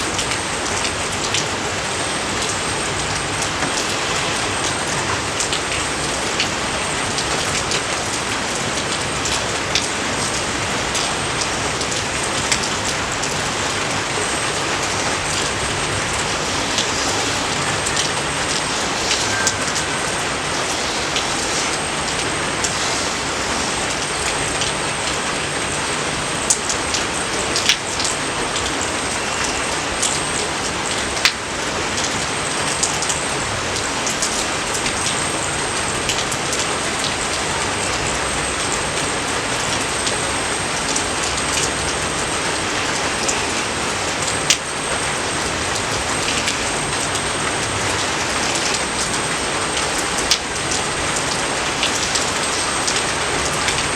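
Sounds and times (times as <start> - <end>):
steady rain hiss: 0.0 - 53.9
close raindrop strikes: 0.1 - 53.9.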